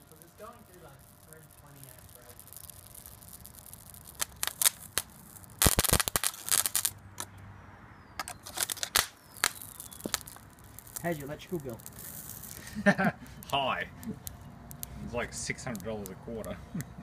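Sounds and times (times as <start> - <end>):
electric arc crackling snaps: 0.0 - 7.3, 8.2 - 17.0.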